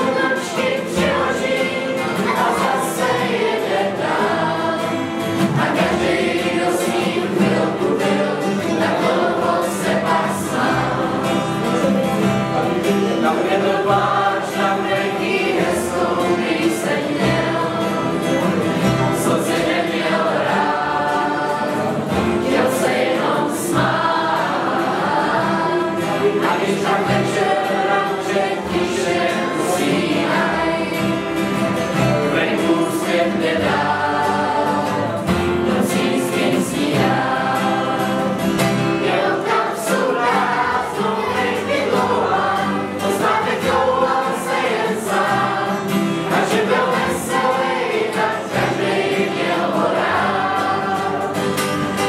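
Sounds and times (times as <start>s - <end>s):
strummed acoustic guitars: 0.0s - 52.0s
young voices singing together: 0.0s - 52.0s.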